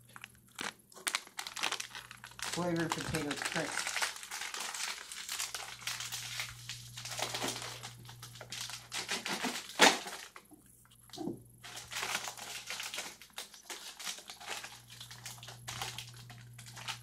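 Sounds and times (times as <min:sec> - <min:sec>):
plastic crisp packet crinkling: 0:00.0 - 0:17.0.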